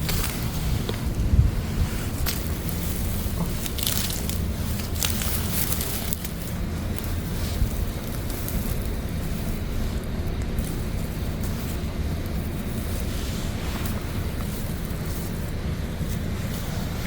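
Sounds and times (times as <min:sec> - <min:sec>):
plant stems crackling and tearing: 0:00.0 - 0:01.3, 0:01.9 - 0:17.0
wind rumble on microphone: 0:00.0 - 0:17.0.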